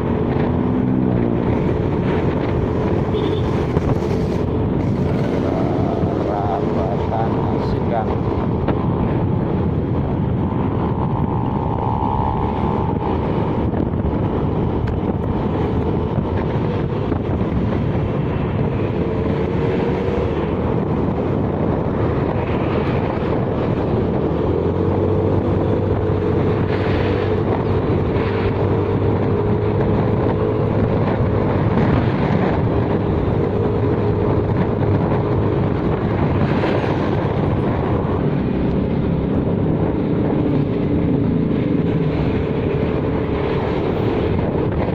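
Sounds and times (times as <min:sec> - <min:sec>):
vehicle engine and road noise: 0:00.0 - 0:44.9
wind buffeting microphone: 0:00.0 - 0:44.9.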